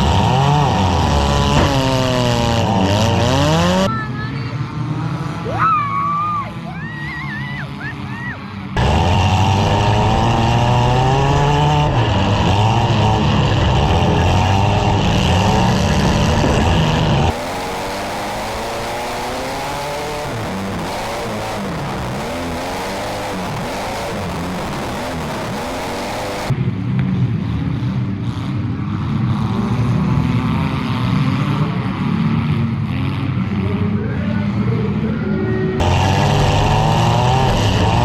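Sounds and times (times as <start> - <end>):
car engines revving: 0.0 - 38.0
din of several engines: 0.0 - 38.0.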